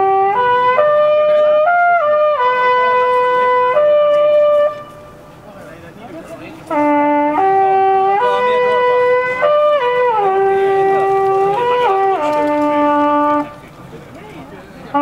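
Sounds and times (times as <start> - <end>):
long wooden horn call: 0.0 - 5.4, 6.3 - 13.9, 14.7 - 15.0.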